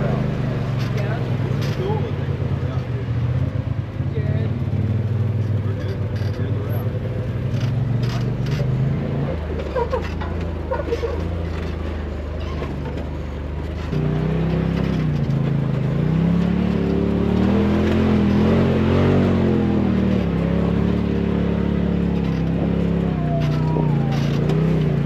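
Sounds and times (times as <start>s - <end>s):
utility vehicle engine revving: 0.0s - 25.0s.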